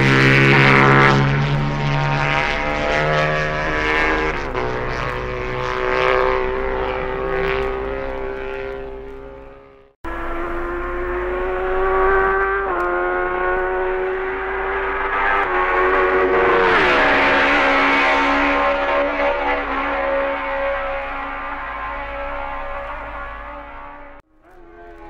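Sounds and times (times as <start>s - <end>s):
racing motorcycle engine revving: 0.0s - 25.0s.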